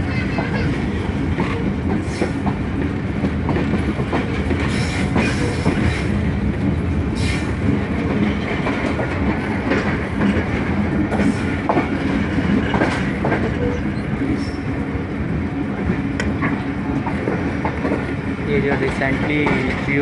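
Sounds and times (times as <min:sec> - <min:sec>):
train wheels rumbling on rail: 0:00.0 - 0:20.0
wheels clacking over rail joints: 0:00.2 - 0:14.6, 0:15.8 - 0:20.0.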